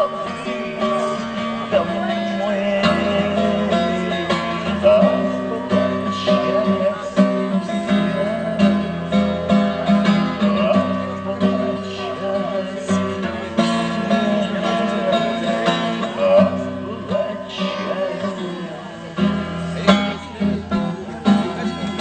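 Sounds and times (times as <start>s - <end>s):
person singing: 0.0s - 20.8s
strummed acoustic guitar: 0.0s - 22.0s.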